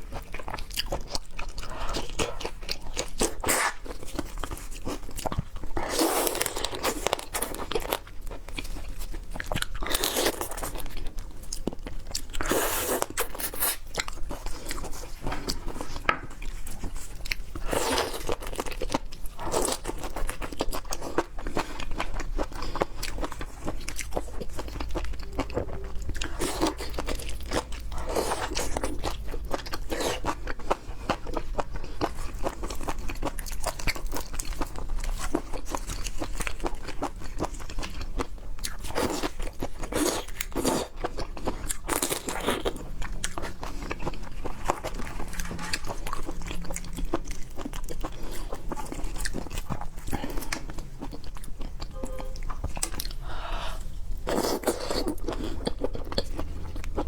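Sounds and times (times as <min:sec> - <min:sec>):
close chewing and biting: 0:00.0 - 0:57.0.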